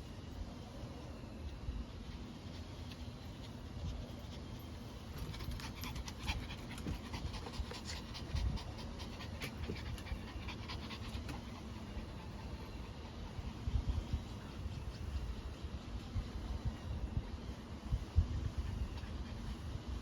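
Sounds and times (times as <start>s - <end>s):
low steady rumble: 0.0s - 20.0s
dog panting: 2.1s - 16.8s, 18.0s - 20.0s.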